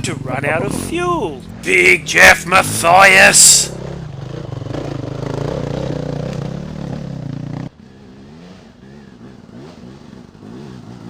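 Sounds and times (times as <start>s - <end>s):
dirt bike engine revving: 0.0s - 11.0s
faint motorcycle engine revving: 0.0s - 11.0s.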